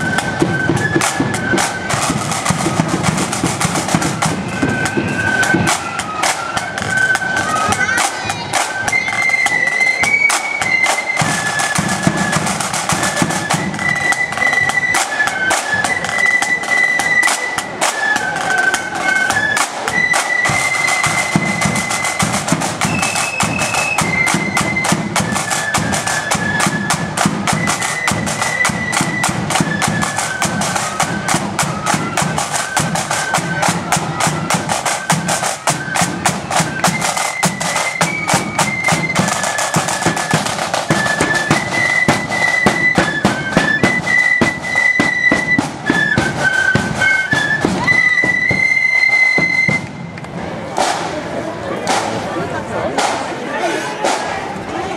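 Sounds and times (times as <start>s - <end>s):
flutes playing melody: 0.0s - 50.3s
rapid snare drumming: 0.0s - 52.3s, 52.9s - 54.6s.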